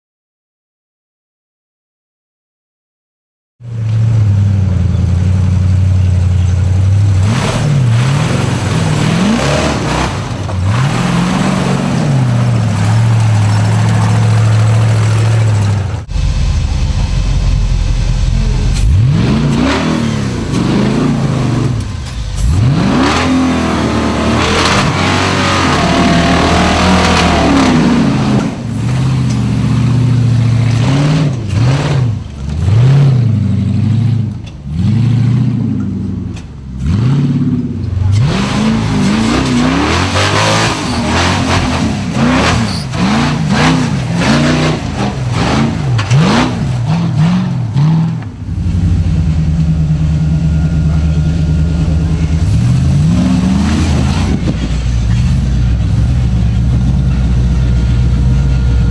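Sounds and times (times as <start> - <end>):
engine idling and revving: 3.6 - 58.9.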